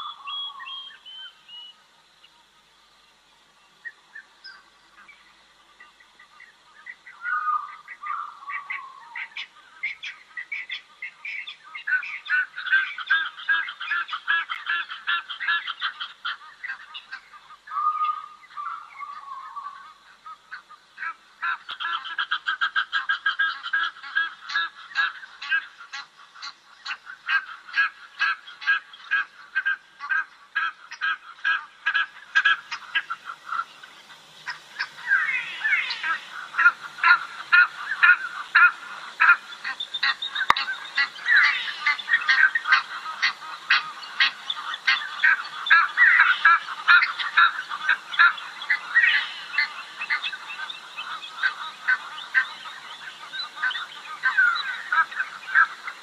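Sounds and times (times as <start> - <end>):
flock of birds calling: 0.0 - 56.0.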